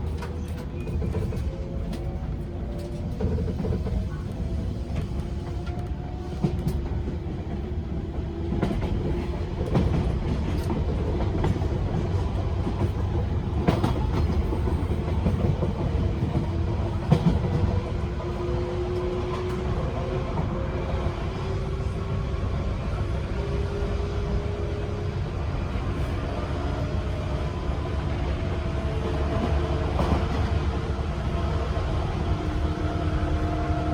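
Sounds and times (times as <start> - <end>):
low train rumble: 0.0 - 33.9.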